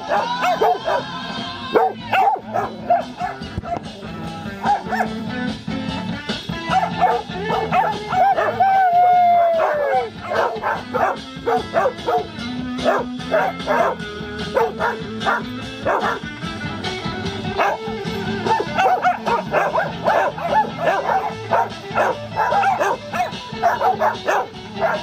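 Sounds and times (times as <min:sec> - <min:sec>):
dogs yipping and barking: 0:00.0 - 0:05.4, 0:06.3 - 0:16.3, 0:17.5 - 0:25.0
song playing in room: 0:00.0 - 0:25.0.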